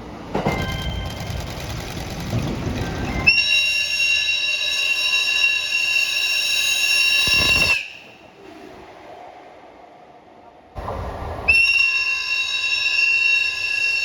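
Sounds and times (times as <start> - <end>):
train running by: 0.0 - 14.0.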